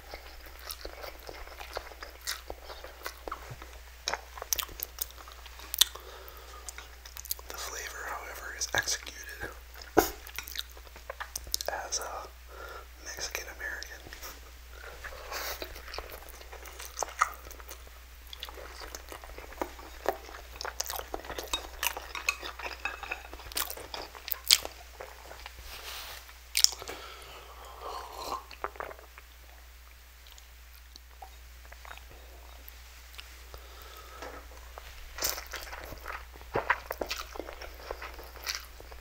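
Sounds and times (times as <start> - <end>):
wet chewing of noodles: 0.0 - 7.7, 9.7 - 12.8, 13.8 - 29.3, 30.2 - 39.0.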